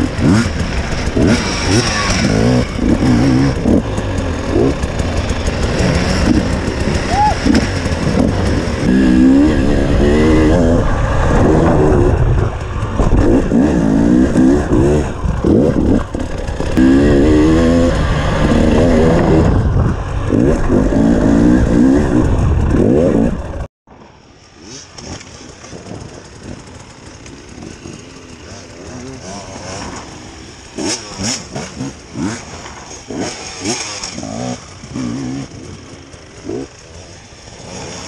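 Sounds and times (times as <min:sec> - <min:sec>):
dirt bike engine revving: 0:00.0 - 0:23.7, 0:24.6 - 0:38.0.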